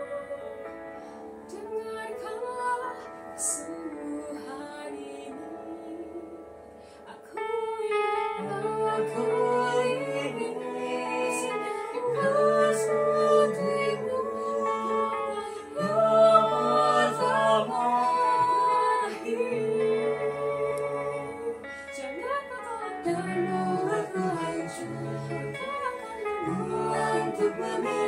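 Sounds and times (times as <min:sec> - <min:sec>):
mixed vocal group singing in harmony: 0:00.0 - 0:28.0.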